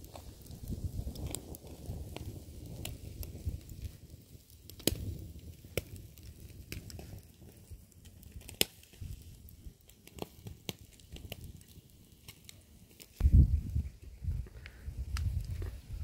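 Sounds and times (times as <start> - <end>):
meat grilling: 0.0 - 13.2
wood fire crackling and popping: 0.0 - 16.0.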